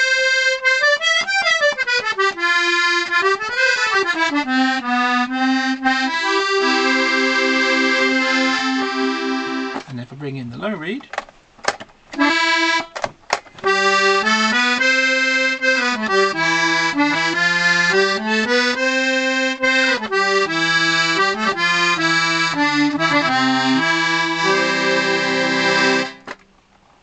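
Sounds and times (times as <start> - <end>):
accordion playing chords: 0.0 - 10.0, 12.2 - 13.0, 13.6 - 26.4.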